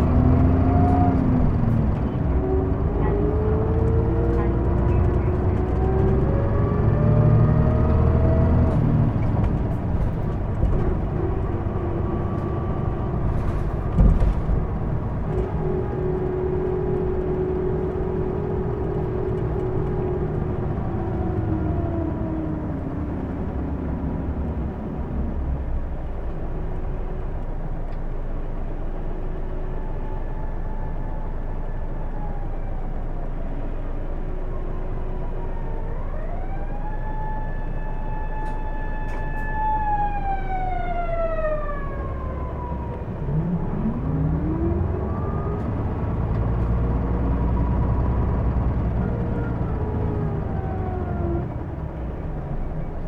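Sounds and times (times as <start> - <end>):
bus engine whining: 0.0 - 53.0.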